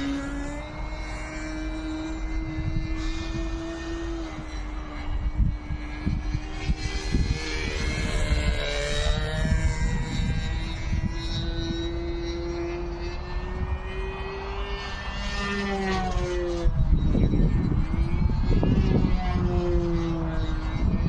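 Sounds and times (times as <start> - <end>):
model airplane engine flying past: 0.0 - 21.0
wind buffeting microphone: 0.0 - 21.0.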